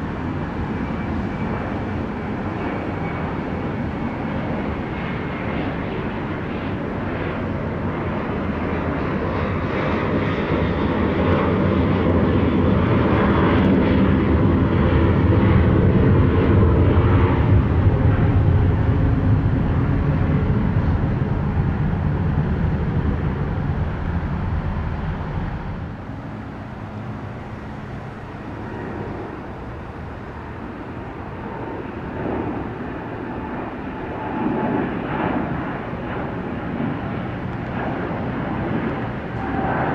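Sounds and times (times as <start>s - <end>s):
jet airliner engine roar: 0.0s - 39.9s.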